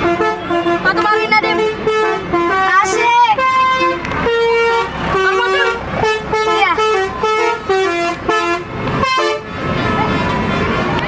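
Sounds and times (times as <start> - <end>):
multi-tone vehicle horn tune: 0.0 - 11.0.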